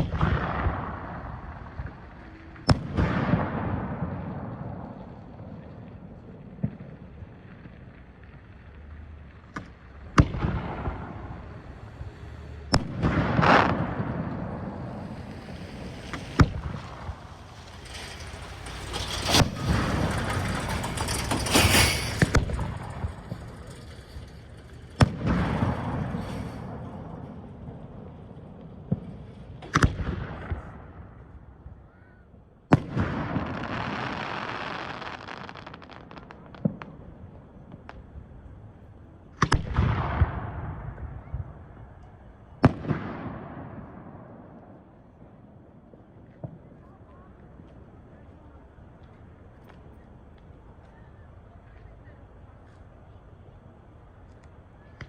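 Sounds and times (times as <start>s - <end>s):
fireworks crackling: 0.0s - 31.3s, 32.7s - 51.5s
fireworks bangs: 0.0s - 31.8s, 32.7s - 50.4s.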